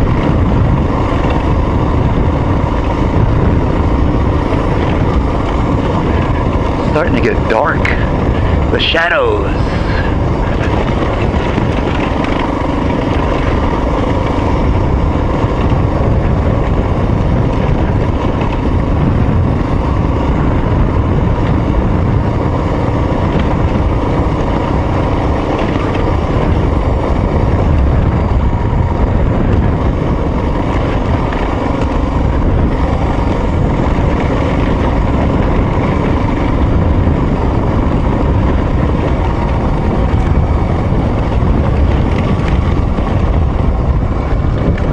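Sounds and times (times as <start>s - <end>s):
vehicle engine rumble: 0.0s - 44.9s.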